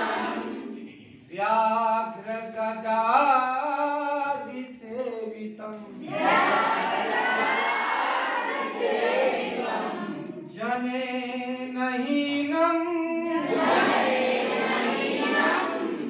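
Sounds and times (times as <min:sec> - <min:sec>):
people chanting verses together: 0:00.0 - 0:02.9, 0:05.7 - 0:16.0.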